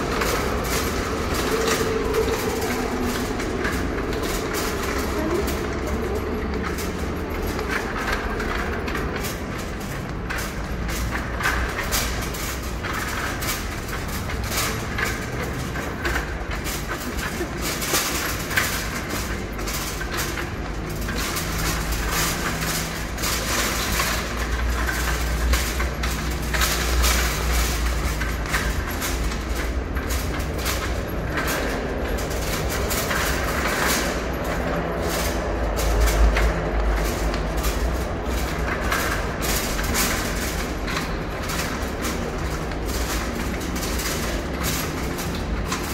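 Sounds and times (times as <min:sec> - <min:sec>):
cart casters rolling on tiles: 0:00.0 - 0:45.9
wire basket rattling: 0:00.0 - 0:45.9.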